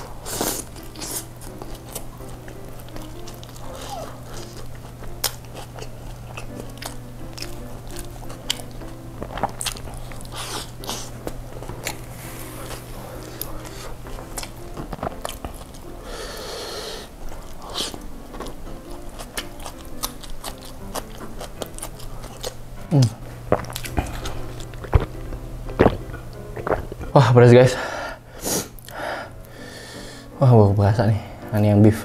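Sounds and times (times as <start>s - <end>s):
wet chewing and biting: 0.0s - 27.3s, 28.6s - 29.5s.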